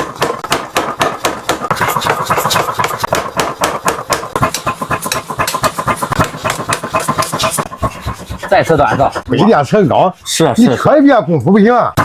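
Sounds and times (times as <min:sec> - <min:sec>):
rapid hammer blows on hot steel: 0:00.0 - 0:09.7.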